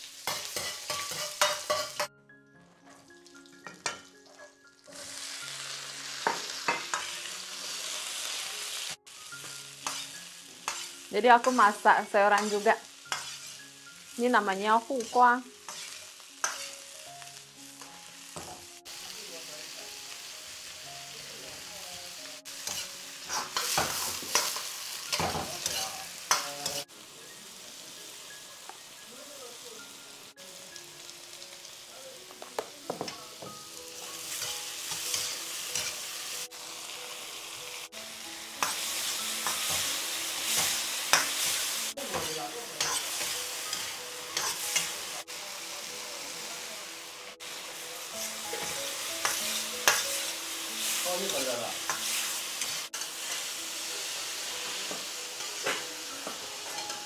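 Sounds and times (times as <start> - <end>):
vegetables sizzling in wok: 0.0 - 2.1, 2.8 - 57.0.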